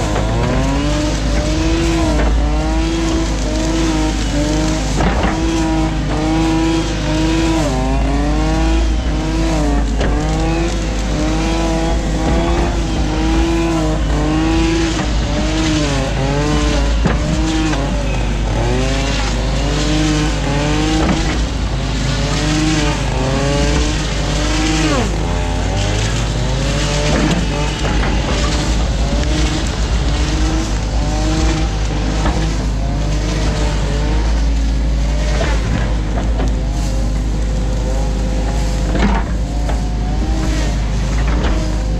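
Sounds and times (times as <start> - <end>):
excavator diesel engine: 0.0 - 41.9
hydraulic pump whine: 0.0 - 41.9.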